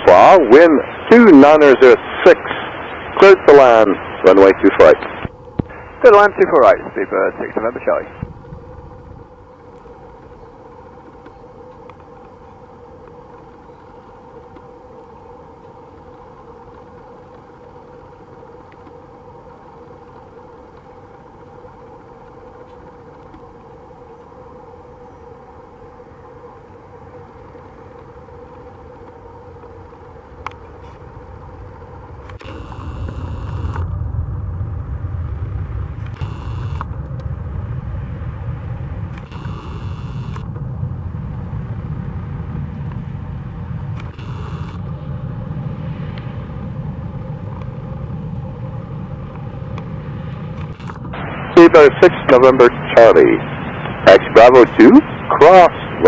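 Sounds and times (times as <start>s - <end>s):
loud low rumble of reverse thrust: 0.0s - 15.6s, 23.7s - 56.0s
jet engines whining: 0.0s - 56.0s.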